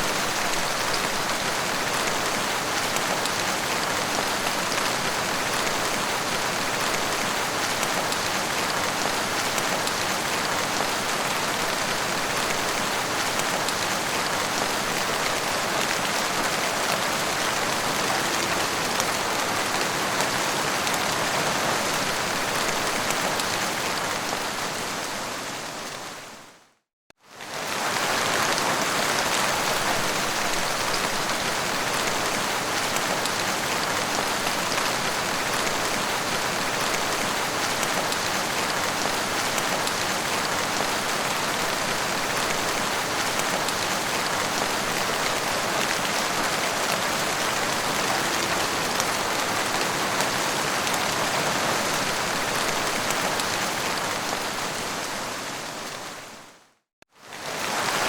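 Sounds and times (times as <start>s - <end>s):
heavy rain falling: 0.0s - 26.3s, 27.4s - 56.6s, 57.2s - 58.0s.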